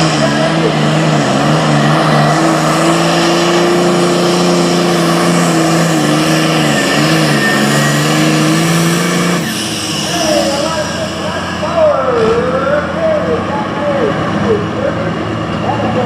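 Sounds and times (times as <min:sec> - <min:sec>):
tractor diesel engine at high revs: 0:00.0 - 0:16.0.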